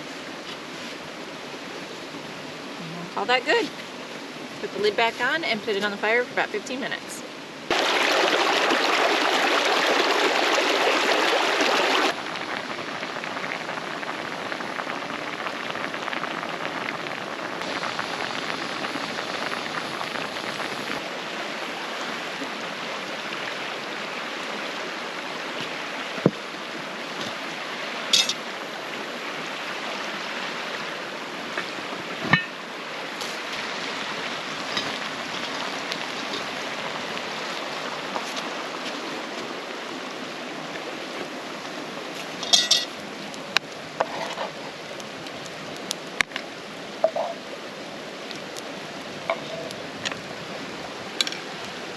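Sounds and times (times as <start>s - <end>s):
rushing creek water: 0.0s - 51.9s.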